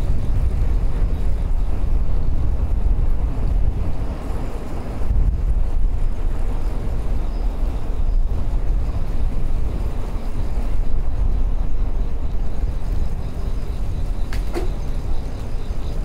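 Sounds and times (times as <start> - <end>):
bicycle road noise: 0.0 - 16.0
wind buffeting microphone: 0.0 - 16.0.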